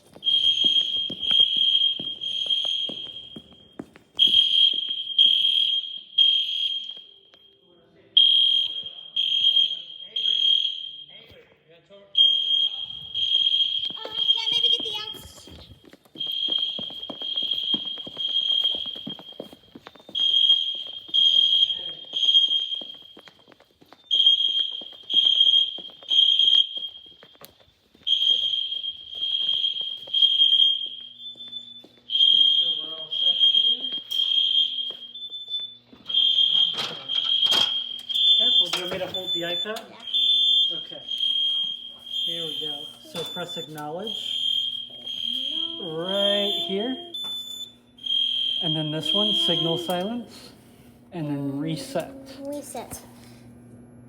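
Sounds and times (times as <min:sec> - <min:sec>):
fire alarm horn blasts: 0:00.0 - 0:07.6, 0:08.2 - 0:11.2, 0:12.2 - 0:50.5.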